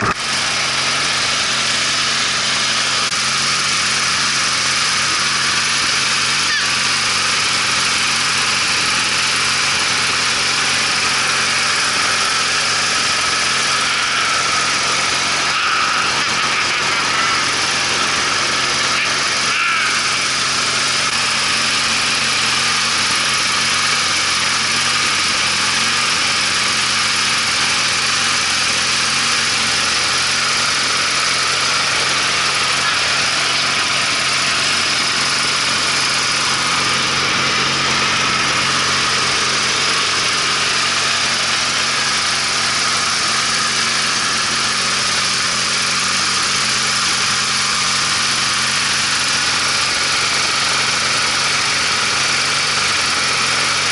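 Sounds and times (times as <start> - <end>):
riding lawn mower engine running: 0.0 - 53.9.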